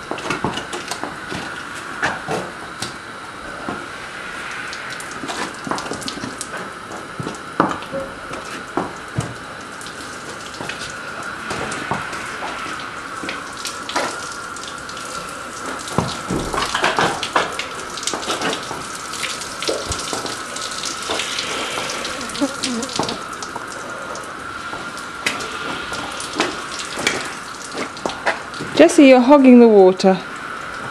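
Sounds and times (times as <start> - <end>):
garden hose spraying water: 0.0 - 30.2.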